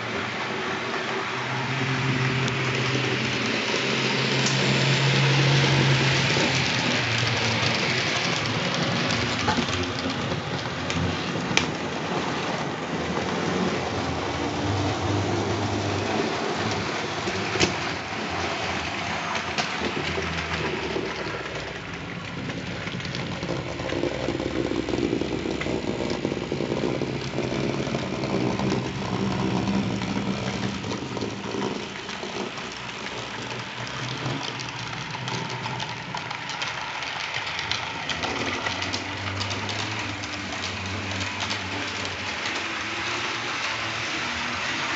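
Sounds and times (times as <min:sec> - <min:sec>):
model train running on track: 0:00.0 - 0:44.9.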